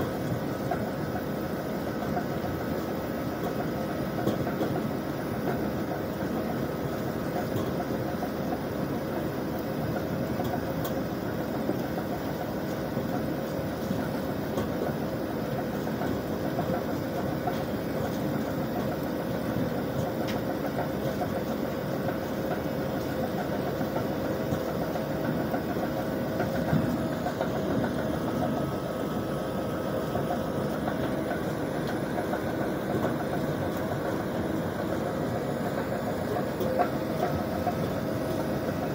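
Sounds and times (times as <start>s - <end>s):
conveyors working: 0.0s - 38.9s
diesel engine running: 0.0s - 38.9s.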